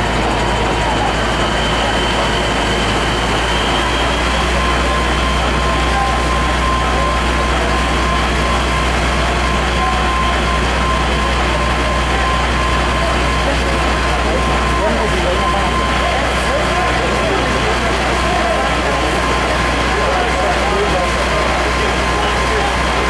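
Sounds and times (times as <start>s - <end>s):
fire engine rumbling: 0.0s - 23.0s.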